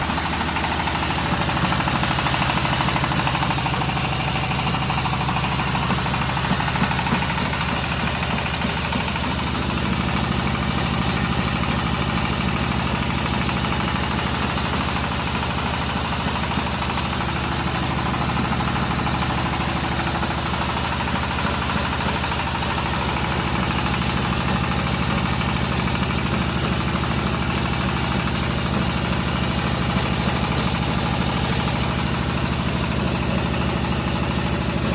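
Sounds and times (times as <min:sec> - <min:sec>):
extruder machine droning: 0:00.0 - 0:34.9.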